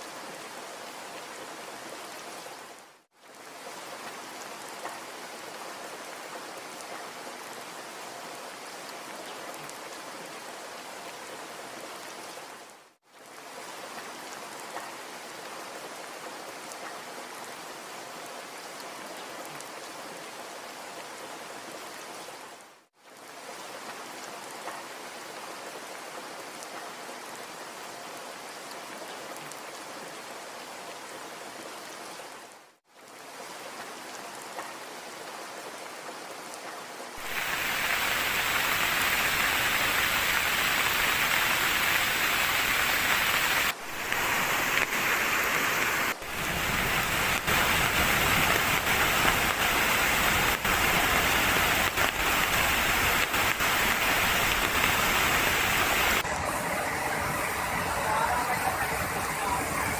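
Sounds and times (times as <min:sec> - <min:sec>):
heavy rain: 0:00.0 - 0:59.9
runoff streaming across road: 0:00.0 - 0:59.9.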